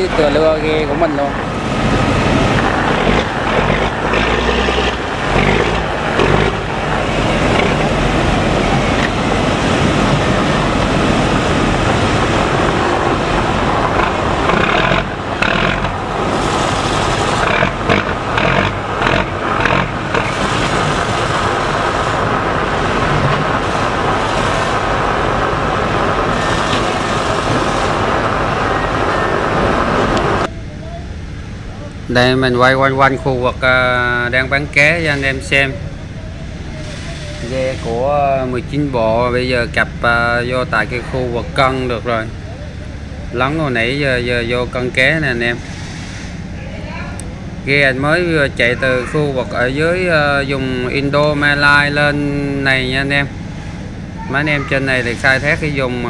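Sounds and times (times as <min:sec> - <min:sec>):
diesel boat engine running: 0:00.0 - 0:56.0.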